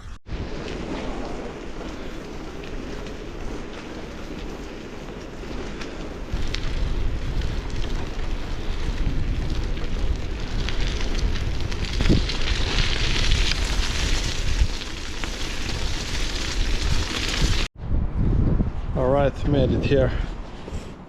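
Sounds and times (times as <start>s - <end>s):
wind buffeting microphone: 0.3s - 21.0s.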